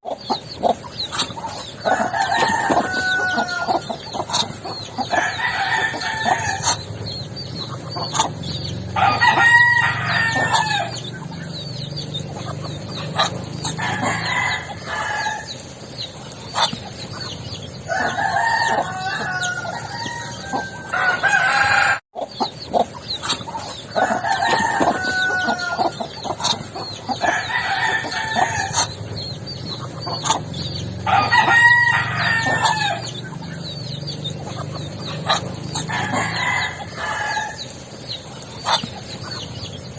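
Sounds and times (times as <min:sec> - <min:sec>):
hens clucking: 0:00.0 - 0:39.9
roosters crowing: 0:00.0 - 0:39.9.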